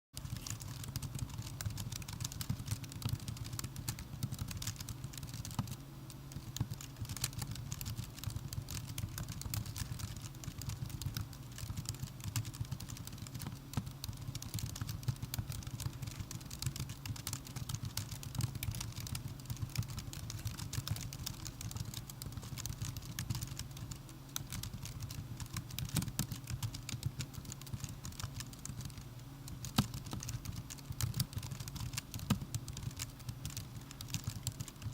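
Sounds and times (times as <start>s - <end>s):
laptop keyboard typing: 0.2s - 34.9s.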